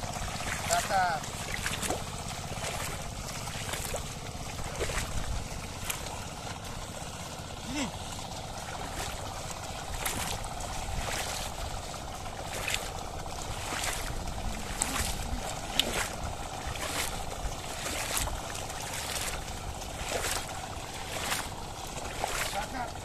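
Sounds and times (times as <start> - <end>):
steady wash of water: 0.0 - 23.0
water and mud splashing: 0.0 - 23.0.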